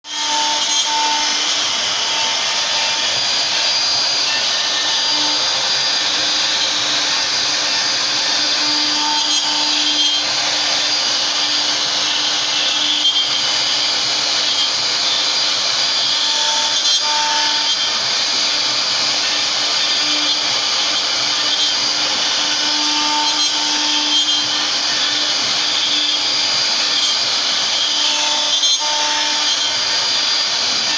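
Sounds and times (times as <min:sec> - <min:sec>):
router spindle whine: 0:00.0 - 0:30.9.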